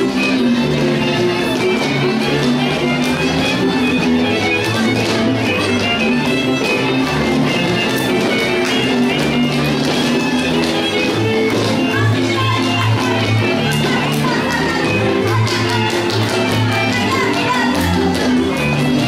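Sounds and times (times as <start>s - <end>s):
fiddle melody: 0.0s - 19.0s.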